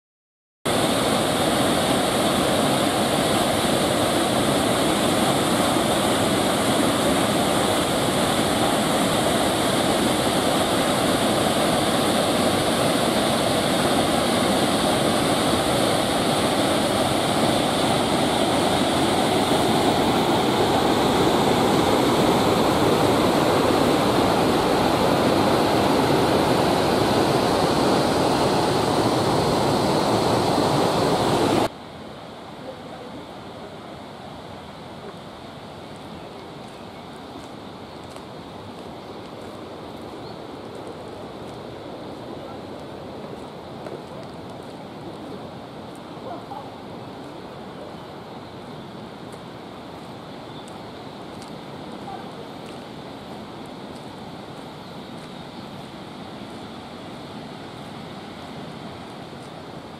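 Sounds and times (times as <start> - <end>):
waterfall rushing: 0.7 - 59.9.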